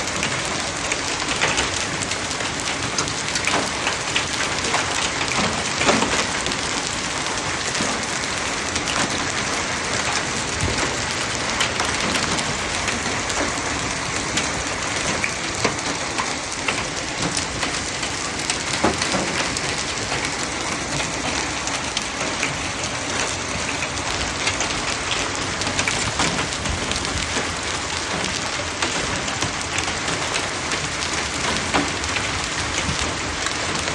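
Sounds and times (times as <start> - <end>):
hail falling: 0.0 - 33.9.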